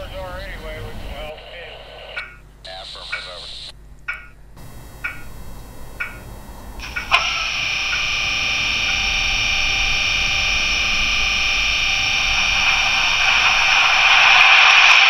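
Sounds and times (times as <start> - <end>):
diesel locomotive engines running: 0.0 - 15.0.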